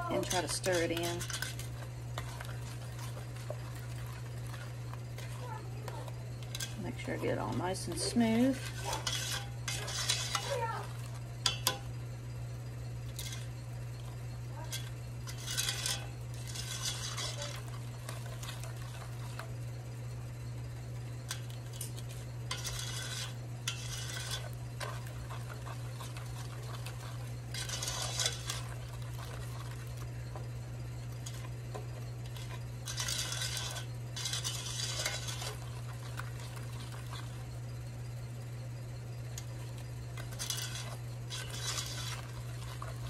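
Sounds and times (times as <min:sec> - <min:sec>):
spatula scraping a metal pot: 0:00.0 - 0:19.7, 0:20.4 - 0:43.0
steady low hum: 0:00.0 - 0:43.0.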